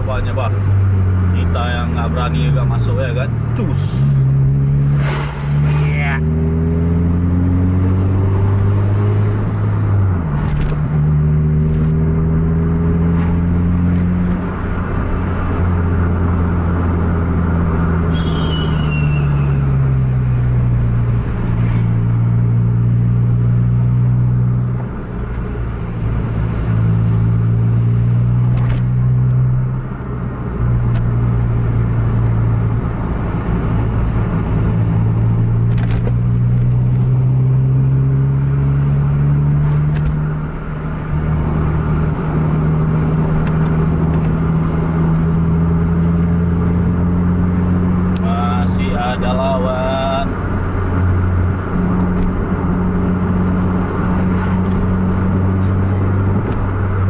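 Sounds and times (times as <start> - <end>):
car engine running hard: 0.0 - 57.0
road noise: 0.0 - 57.0.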